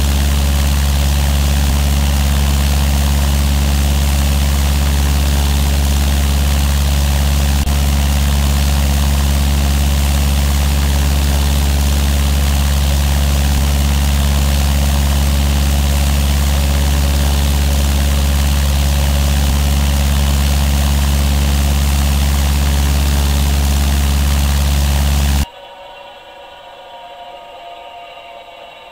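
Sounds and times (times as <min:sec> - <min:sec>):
airplane engine and propeller drone: 0:00.0 - 0:25.4.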